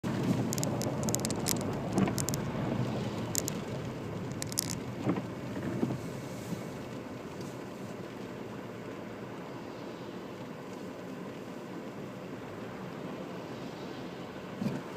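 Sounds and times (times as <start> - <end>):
car engine and road rumble: 0.0 - 14.9.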